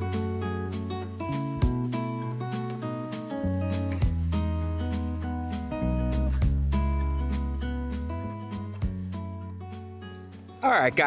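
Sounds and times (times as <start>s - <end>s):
acoustic guitar music with beat: 0.0s - 11.0s.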